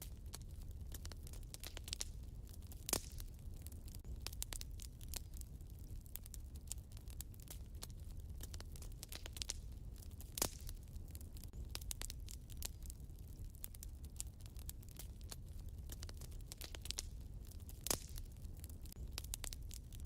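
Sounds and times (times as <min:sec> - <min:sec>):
fireplace fire crackling: 0:00.0 - 0:20.0
low rumble of flame: 0:00.0 - 0:20.0.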